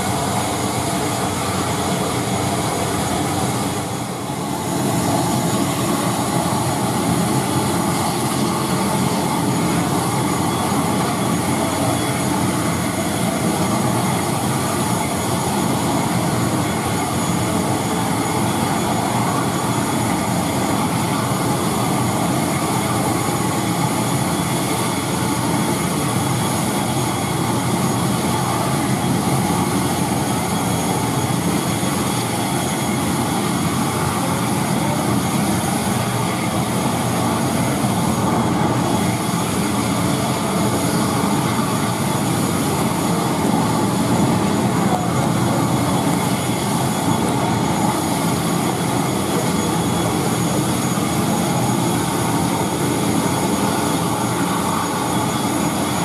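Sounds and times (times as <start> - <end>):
turboprop engine droning: 0.0 - 56.0.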